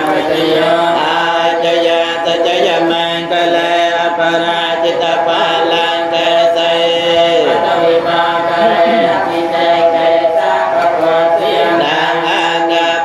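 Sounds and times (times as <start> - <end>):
chanting on a steady pitch: 0.0 - 13.0.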